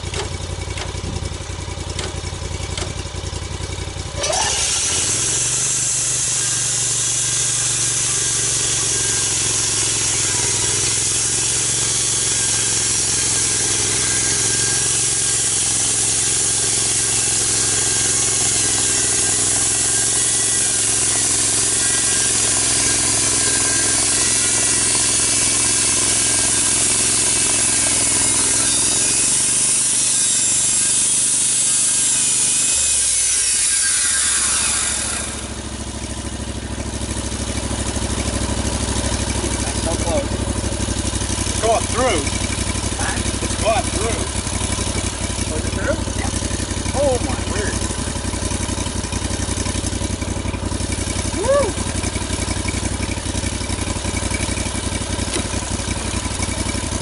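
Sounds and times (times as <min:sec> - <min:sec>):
saw cutting through log: 0:00.0 - 0:57.0
saw gas engine revving: 0:00.0 - 0:57.0.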